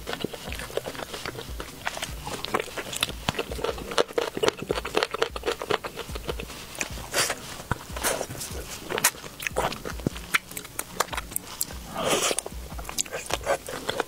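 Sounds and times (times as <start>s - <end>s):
crunching and chewing fried chicken: 0.0s - 14.0s.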